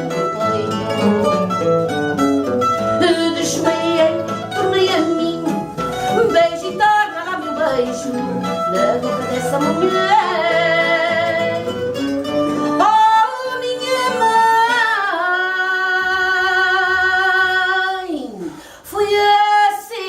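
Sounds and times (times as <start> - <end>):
plucked guitars: 0.0 - 20.0
woman singing with vibrato: 2.9 - 20.0.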